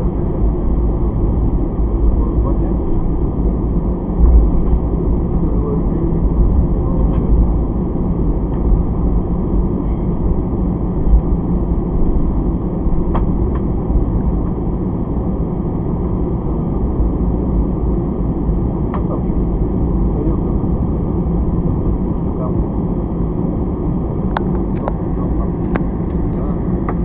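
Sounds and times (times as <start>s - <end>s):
airplane cabin engine rumble: 0.0s - 27.0s.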